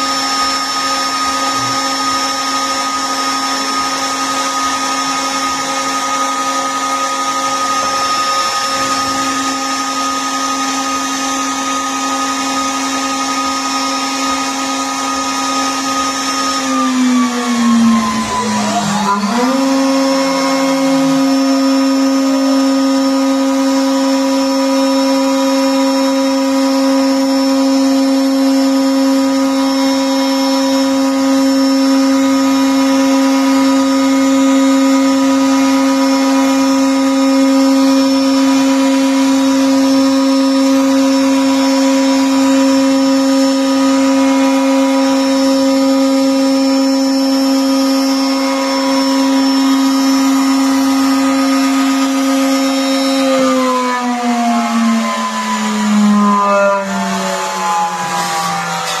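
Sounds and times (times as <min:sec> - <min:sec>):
spindle motor high whine: 0:00.0 - 0:59.0.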